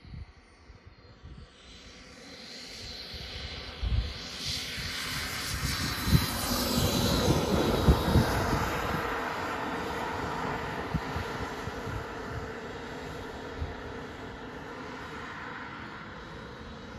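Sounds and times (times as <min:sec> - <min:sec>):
model jet turbine rushing: 0:01.8 - 0:16.9.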